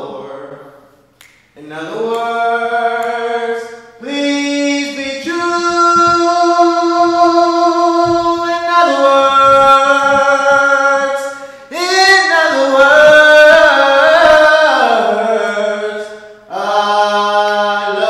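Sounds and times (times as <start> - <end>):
person singing long notes: 1.6 - 18.0.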